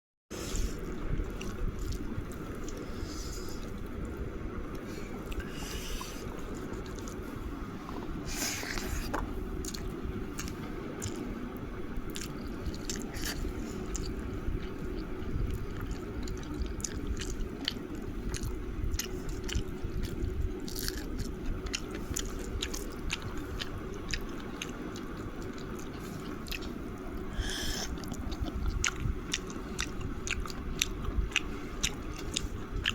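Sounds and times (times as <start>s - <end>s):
person chewing and crunching food: 0.3s - 32.9s.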